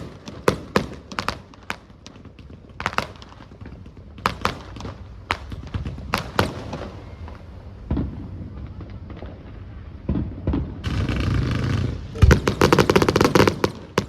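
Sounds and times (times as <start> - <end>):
fireworks bangs and booms: 0.0 - 14.0
fireworks crackling: 0.0 - 14.0.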